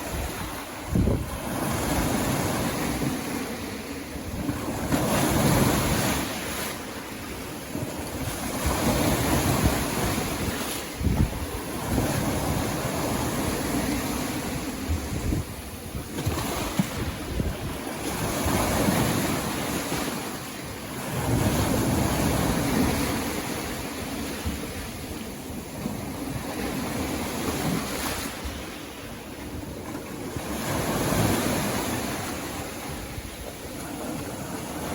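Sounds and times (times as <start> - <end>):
sea waves washing up a beach: 0.0 - 34.9.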